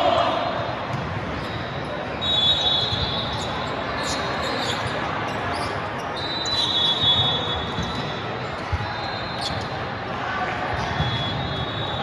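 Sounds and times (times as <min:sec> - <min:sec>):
murmur of players and spectators: 0:00.0 - 0:12.0.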